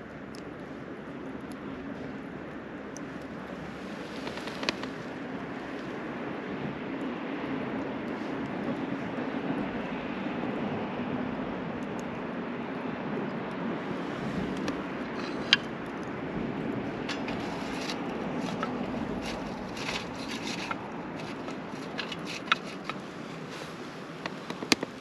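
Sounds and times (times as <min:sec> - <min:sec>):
fire crackling and popping: 0:00.0 - 0:09.9, 0:11.5 - 0:25.0
wood fire burning: 0:00.0 - 0:25.0.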